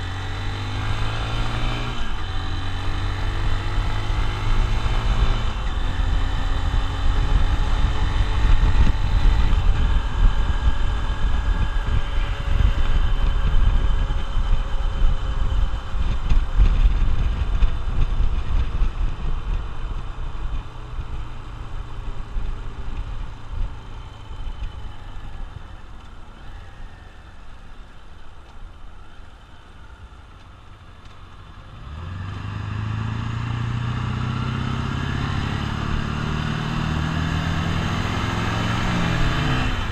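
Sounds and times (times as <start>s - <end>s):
wind rumble on microphone: 0.0s - 27.5s, 31.6s - 39.9s
motorcycle engine: 0.0s - 39.9s.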